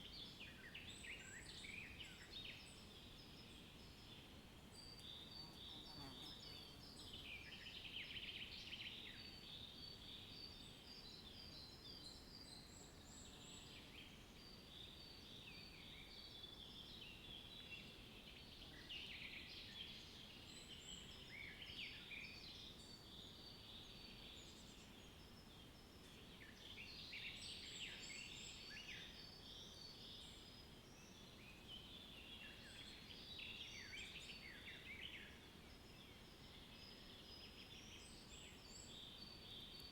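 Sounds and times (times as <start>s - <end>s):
low background hiss: 0.0s - 39.9s
songbirds chirping and trilling: 0.0s - 39.9s.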